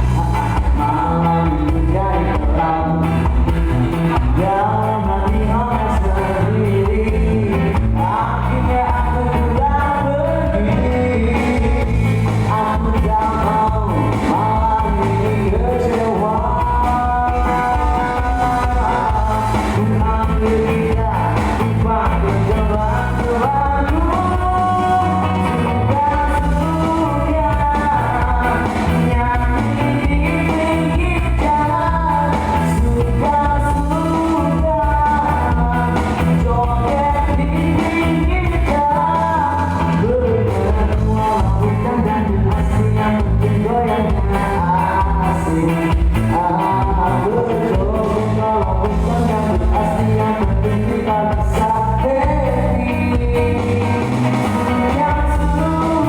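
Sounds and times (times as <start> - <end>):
band playing rock-pop music: 0.0 - 56.0
person singing: 0.0 - 56.0.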